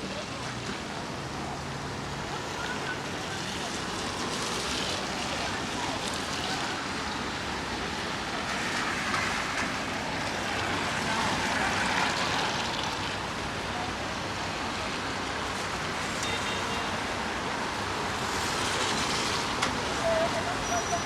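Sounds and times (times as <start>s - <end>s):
rain: 0.0s - 21.0s
tyres on wet road: 0.0s - 21.0s.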